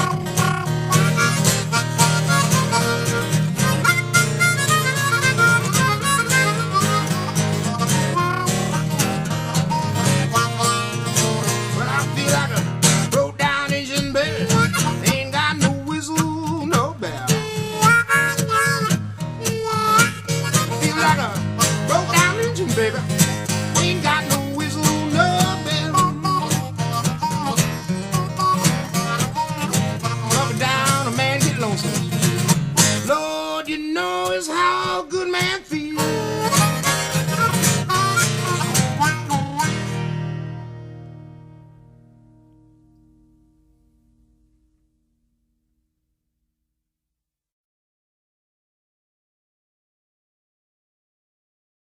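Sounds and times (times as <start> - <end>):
bass line: 0.0 - 33.2, 35.8 - 45.7
acoustic blues guitar: 0.0 - 44.5.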